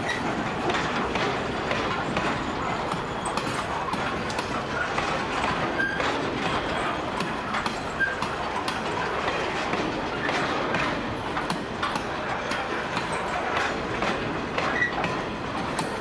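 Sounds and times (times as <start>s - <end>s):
continuous train rumble: 0.0s - 16.0s
wheels clicking over rail joints: 0.0s - 16.0s.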